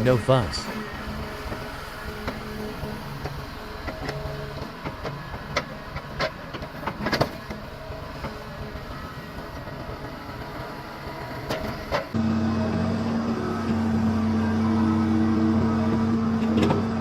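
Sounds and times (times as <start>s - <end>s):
logs and steel clunking: 0.0s - 10.1s, 11.2s - 17.0s
diesel engine running: 0.0s - 17.0s.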